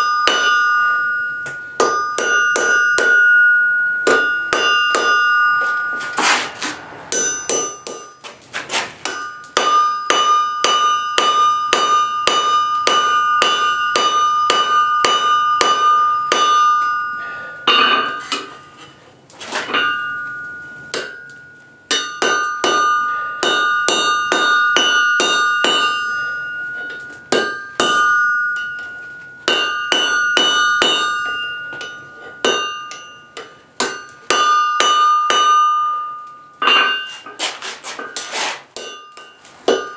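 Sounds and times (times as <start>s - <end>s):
anvil ringing: 0.0s - 8.4s, 9.0s - 39.9s
hammer striking steel on anvil: 0.0s - 39.9s.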